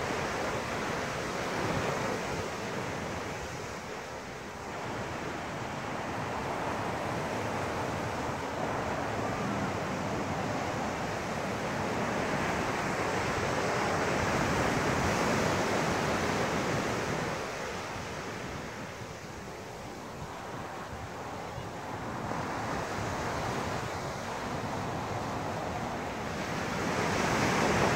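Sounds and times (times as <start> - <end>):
ocean surf breaking on beach: 0.0 - 27.9.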